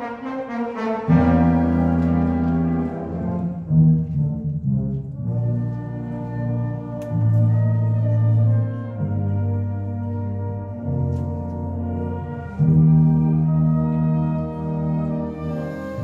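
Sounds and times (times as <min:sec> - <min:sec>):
low brass held notes: 0:00.0 - 0:16.0
wind band playing: 0:00.0 - 0:16.0.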